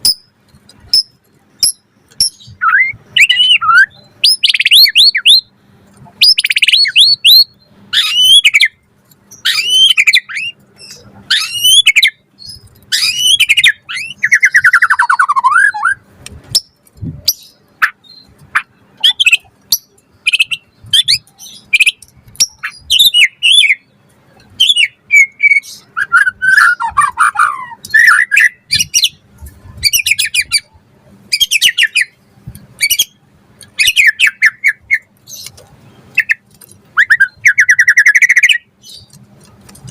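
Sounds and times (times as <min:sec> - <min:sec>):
bird whistling and chirping: 0:01.0 - 0:05.5, 0:06.2 - 0:16.0, 0:16.6 - 0:23.8, 0:24.6 - 0:29.2, 0:29.8 - 0:32.2, 0:32.8 - 0:33.2, 0:33.8 - 0:35.5, 0:37.0 - 0:39.1.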